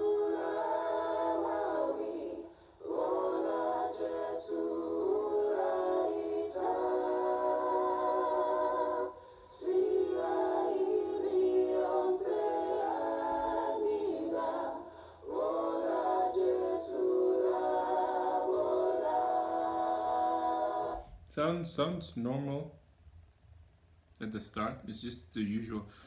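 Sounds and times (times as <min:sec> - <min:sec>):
vocal group singing held chords: 0:00.0 - 0:21.2.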